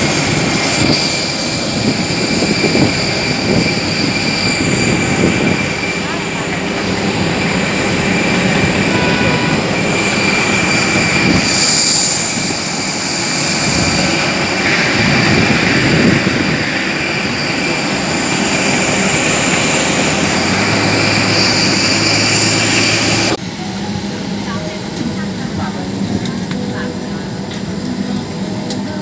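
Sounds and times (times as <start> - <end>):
high whining tones: 0.0 - 29.0
jet engine noise: 0.0 - 29.0.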